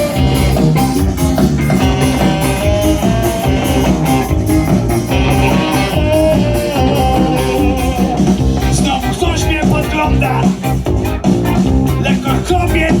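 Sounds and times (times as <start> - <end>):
electric guitar: 0.0 - 13.0
rock band playing: 0.0 - 13.0.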